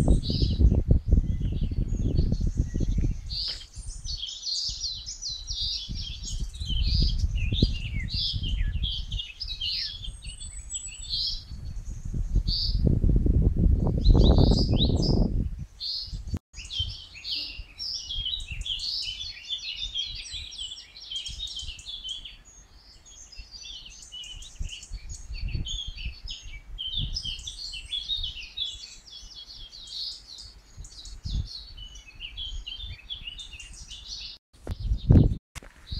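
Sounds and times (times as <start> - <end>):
songbirds chorus: 0.0 - 12.8, 13.9 - 35.2.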